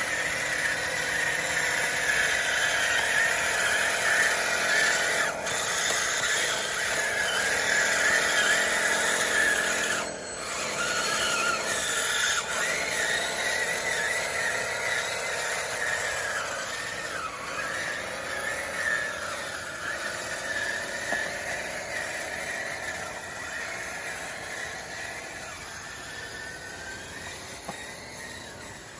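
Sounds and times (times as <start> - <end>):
electric motors and pump whining: 0.0 - 28.9.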